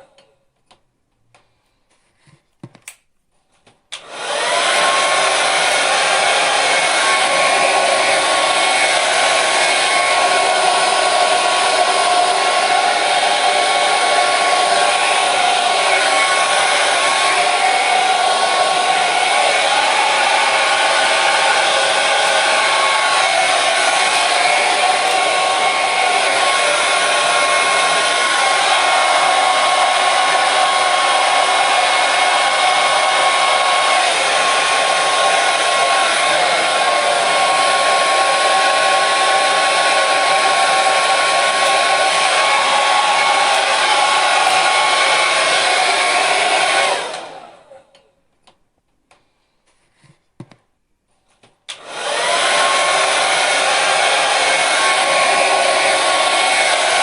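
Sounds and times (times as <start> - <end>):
hair dryer running: 3.9 - 48.0, 51.7 - 57.0.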